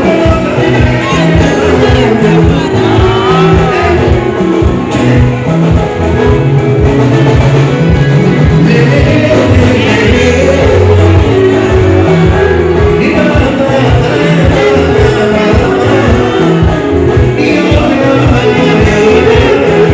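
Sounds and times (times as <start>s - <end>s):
male lead vocal: 0.0s - 6.9s, 7.8s - 19.9s
live band music: 0.0s - 19.9s
strong bass line: 0.0s - 19.9s.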